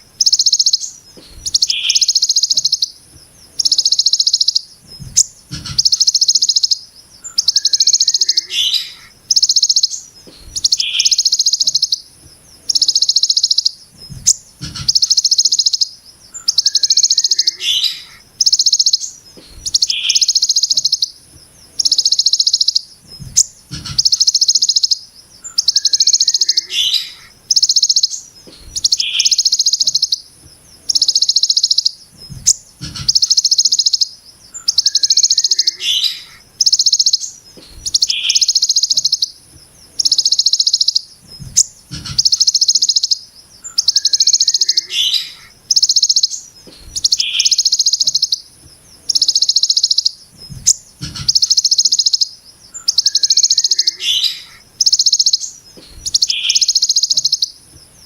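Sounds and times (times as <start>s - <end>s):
songbird rasping high trill: 0.0s - 58.0s.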